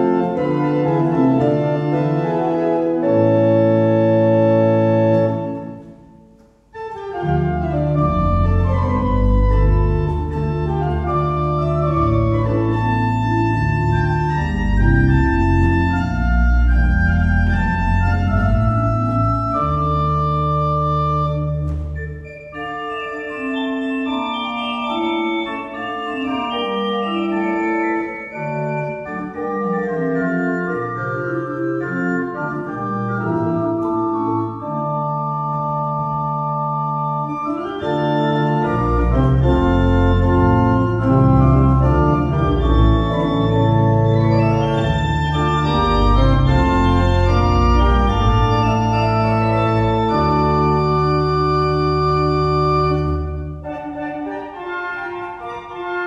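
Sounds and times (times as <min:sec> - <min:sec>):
deep organ bass notes: 0:00.0 - 0:05.8, 0:06.8 - 0:54.0
pipe organ chords: 0:00.0 - 0:56.0.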